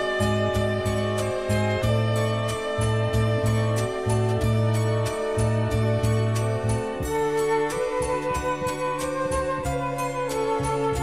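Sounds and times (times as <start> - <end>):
instrumental film score music: 0.0 - 11.0.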